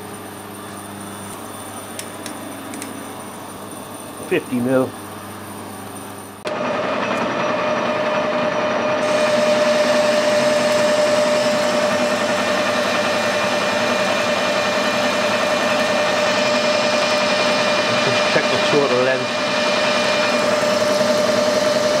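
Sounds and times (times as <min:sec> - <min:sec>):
metal lathe whining: 0:00.0 - 0:22.0.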